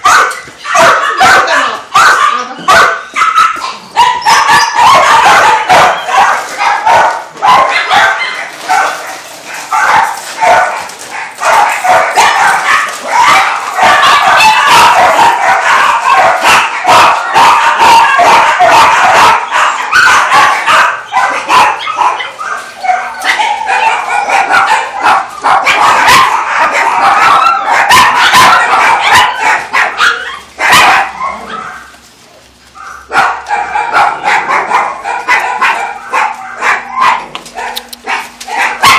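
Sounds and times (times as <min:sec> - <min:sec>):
many dogs barking and yelping: 0:00.0 - 0:38.9.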